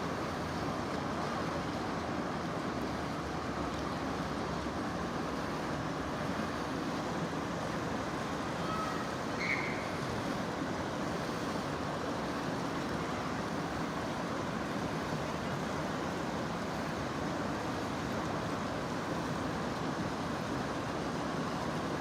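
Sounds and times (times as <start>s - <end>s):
rushing river water: 0.0s - 22.0s.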